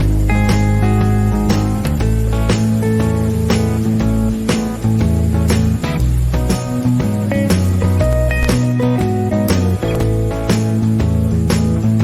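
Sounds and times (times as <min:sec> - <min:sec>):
plucked string melody: 0:00.0 - 0:12.0
steady bass: 0:00.0 - 0:12.0.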